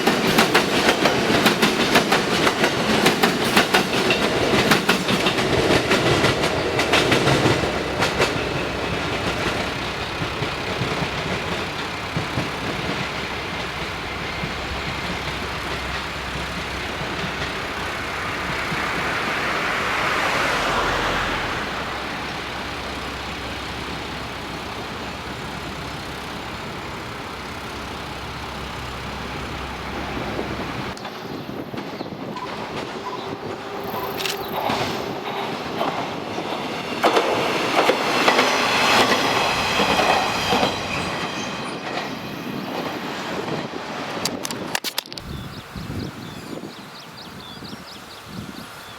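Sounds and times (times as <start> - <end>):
diesel railcar rumble: 0.0 - 48.9
wheels clicking over rail joints: 0.0 - 48.9.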